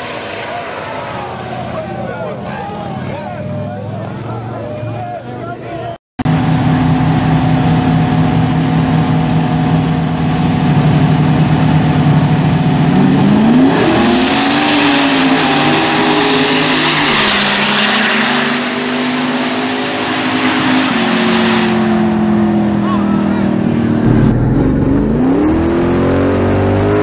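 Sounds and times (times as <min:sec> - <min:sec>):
drag-race engines revving: 0:00.0 - 0:05.6, 0:06.2 - 0:27.0.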